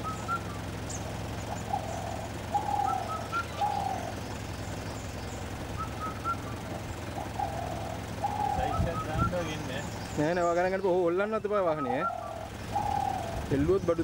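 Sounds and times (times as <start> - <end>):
birds calling: 0.0 - 14.0
vehicle engine idling: 0.0 - 14.0.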